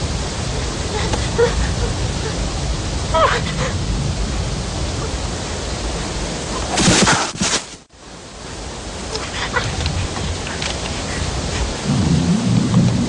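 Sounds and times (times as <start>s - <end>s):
rocky mountain stream rushing: 0.0s - 13.0s.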